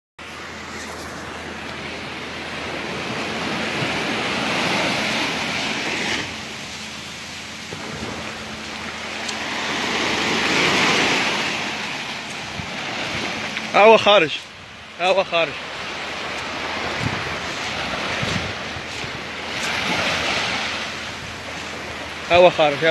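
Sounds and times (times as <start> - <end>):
small waves washing on shore: 0.2 - 22.9.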